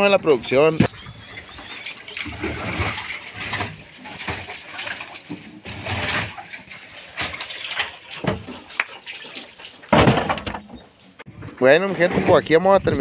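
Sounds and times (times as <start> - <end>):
splashes and sloshing water: 0.0 - 13.0.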